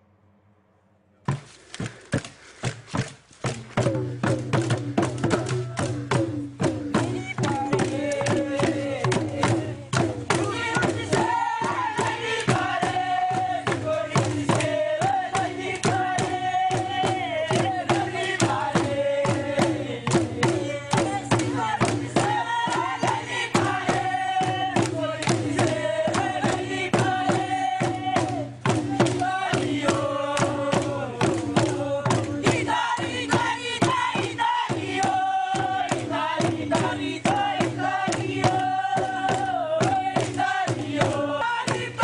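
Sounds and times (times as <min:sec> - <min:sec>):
steady drum beat: 0:01.3 - 0:42.0
group of voices chanting: 0:06.9 - 0:42.0.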